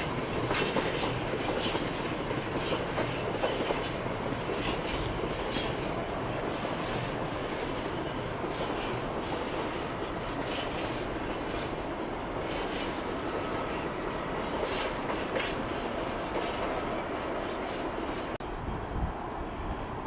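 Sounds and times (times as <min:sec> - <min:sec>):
wheels clanking over rail joints: 0:00.0 - 0:18.4
freight train rumbling: 0:00.0 - 0:20.0.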